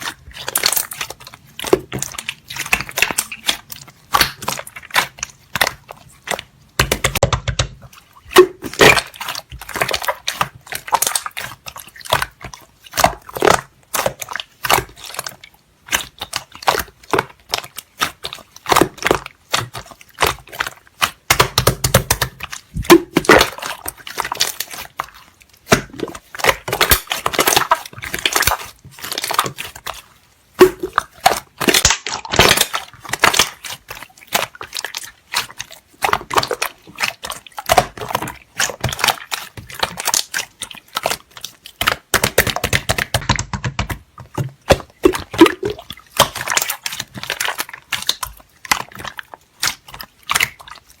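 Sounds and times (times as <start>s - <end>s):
slime squished by hand: 0.0s - 51.0s.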